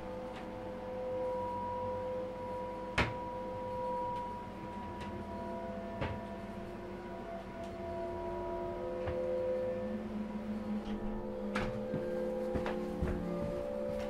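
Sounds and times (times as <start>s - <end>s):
droning background music: 0.0s - 14.0s.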